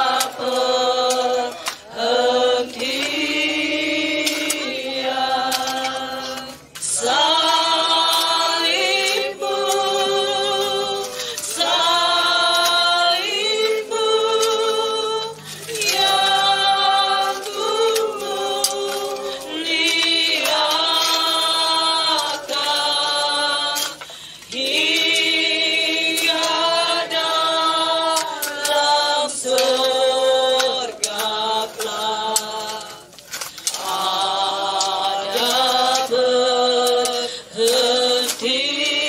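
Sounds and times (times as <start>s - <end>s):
group singing a hymn: 0.0s - 39.0s.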